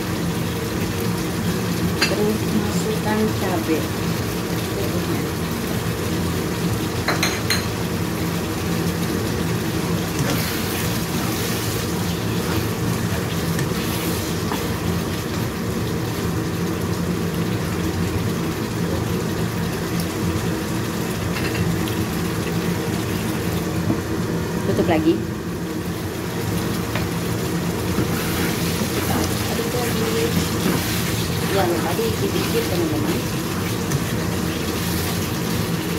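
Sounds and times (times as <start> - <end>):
curry bubbling in a wok: 0.0 - 7.1, 7.7 - 24.7, 25.4 - 35.9.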